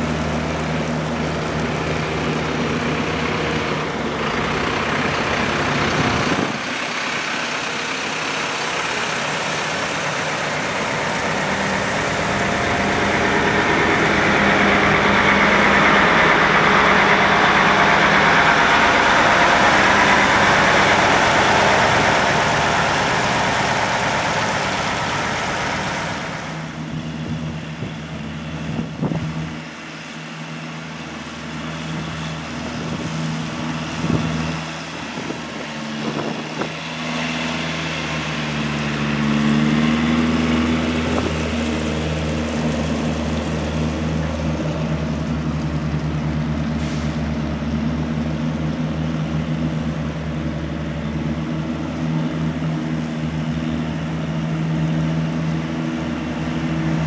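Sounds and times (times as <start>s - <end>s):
tow tractor engine hum: 0.0s - 57.0s
vehicle engines and road noise: 0.0s - 57.0s.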